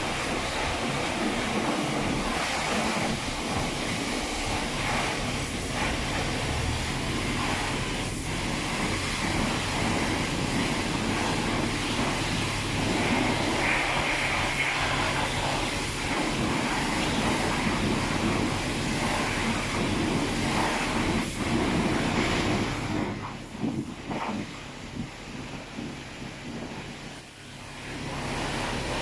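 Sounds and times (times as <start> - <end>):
water spray rushing: 0.0 - 29.0.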